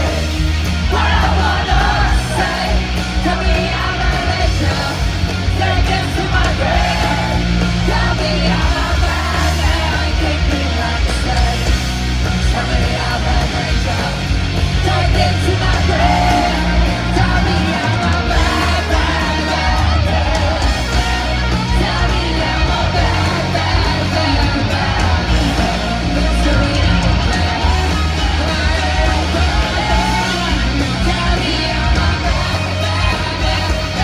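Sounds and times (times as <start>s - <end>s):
crowd yelling along: 0.0s - 34.0s
rock band playing live: 0.0s - 34.0s.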